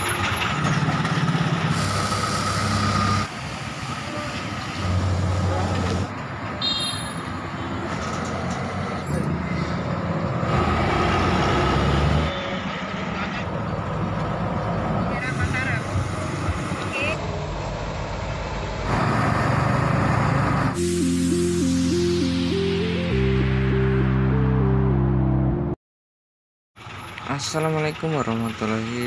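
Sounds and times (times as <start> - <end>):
bus engines pulling away: 0.0 - 25.8, 26.8 - 29.0.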